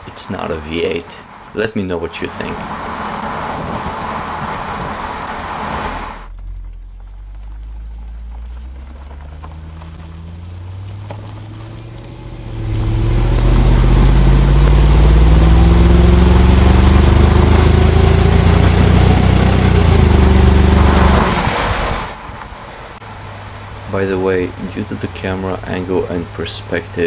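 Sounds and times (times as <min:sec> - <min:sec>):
car exhaust accelerating: 0:00.0 - 0:27.0.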